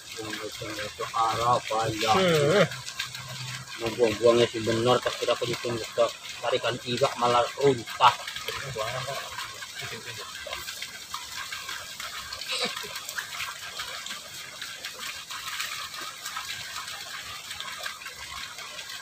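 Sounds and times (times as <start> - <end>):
water rushing in ditch: 0.0 - 19.0.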